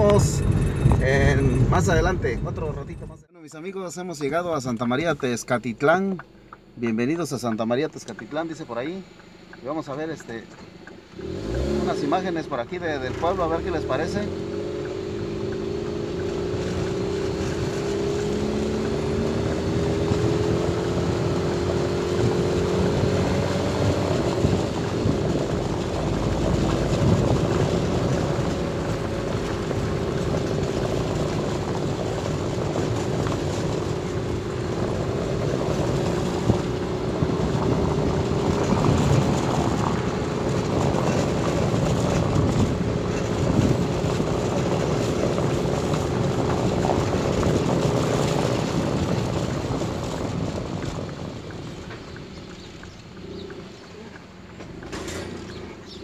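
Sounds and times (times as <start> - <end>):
small road bumps: 0.0 - 3.2, 4.0 - 56.0
car engine and tyre drone: 0.0 - 3.3, 5.0 - 6.8, 7.8 - 56.0.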